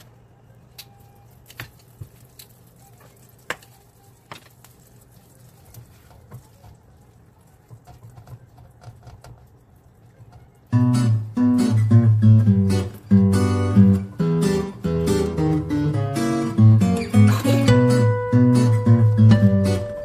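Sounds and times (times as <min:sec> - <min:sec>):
bubbles popping in boiling sauce: 0:00.7 - 0:20.0.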